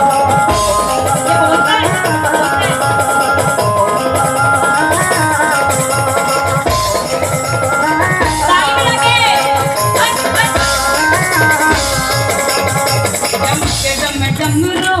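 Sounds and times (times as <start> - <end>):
devotional instrumental melody: 0.0 - 14.9
steady percussion beat: 0.0 - 15.0.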